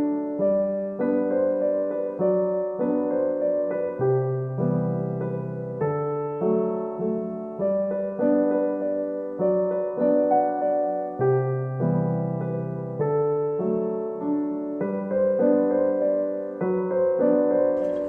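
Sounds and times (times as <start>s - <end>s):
gentle solo piano: 0.0s - 18.0s.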